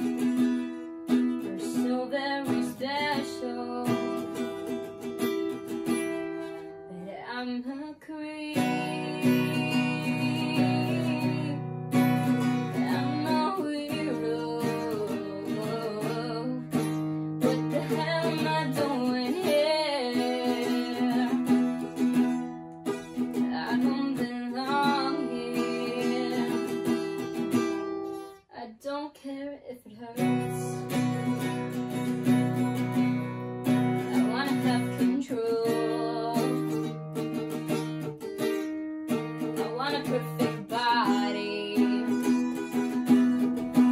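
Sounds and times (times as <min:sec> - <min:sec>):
acoustic guitar strumming chords: 0:00.0 - 0:06.9, 0:08.5 - 0:28.5, 0:30.2 - 0:43.9
young woman singing: 0:00.0 - 0:22.5, 0:23.1 - 0:43.9.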